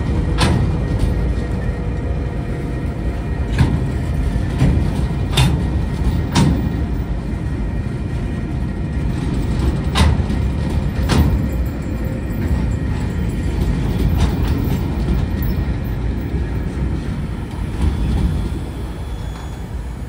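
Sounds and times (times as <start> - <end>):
freight train rumble: 0.0 - 20.0
wheels clacking on track: 0.0 - 20.0.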